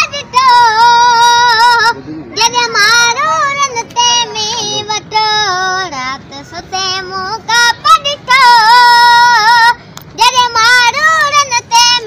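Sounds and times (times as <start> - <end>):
girl singing unaccompanied: 0.0 - 12.0.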